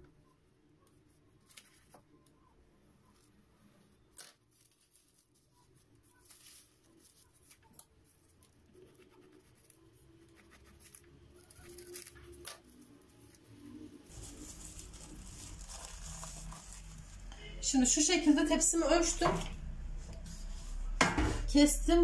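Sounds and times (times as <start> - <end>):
scratching and rustling pastry sheets: 0.1 - 21.6.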